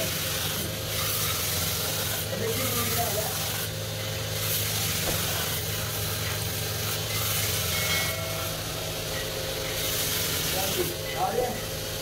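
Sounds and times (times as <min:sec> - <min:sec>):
metal grinding on sanding belt: 0:00.0 - 0:12.0.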